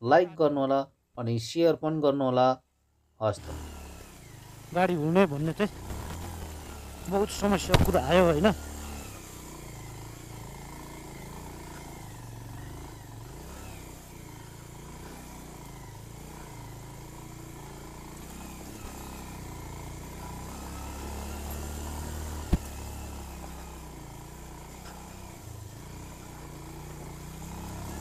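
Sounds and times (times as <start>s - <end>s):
motorcycle engine idling: 3.4s - 28.0s.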